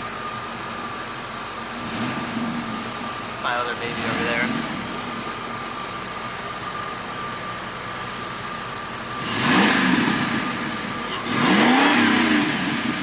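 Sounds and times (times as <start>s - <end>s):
car engine revving: 1.3s - 13.0s.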